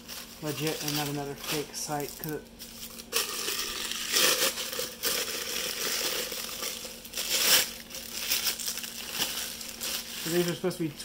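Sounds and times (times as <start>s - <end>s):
paper and bubble wrap crinkling: 0.0s - 11.0s.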